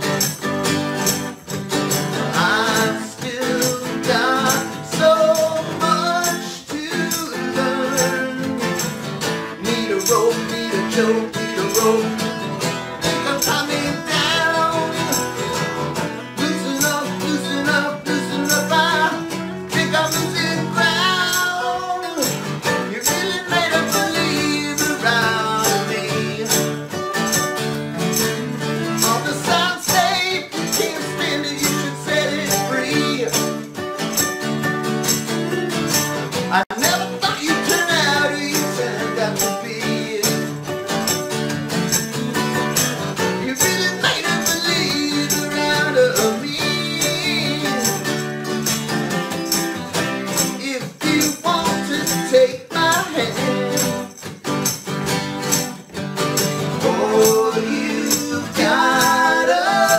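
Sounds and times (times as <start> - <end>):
acoustic guitars strumming: 0.0 - 59.9.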